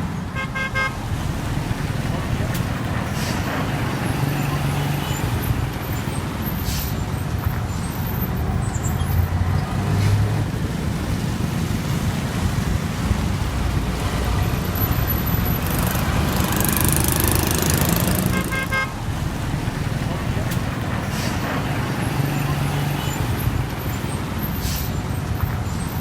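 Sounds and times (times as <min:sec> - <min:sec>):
truck engines rumbling: 0:00.0 - 0:26.0.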